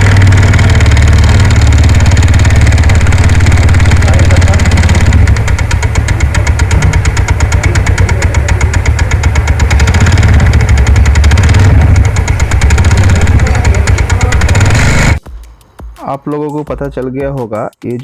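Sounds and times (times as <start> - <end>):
scooter engine idling: 0.0 - 15.2
fast metallic ticking rattle: 0.0 - 18.0.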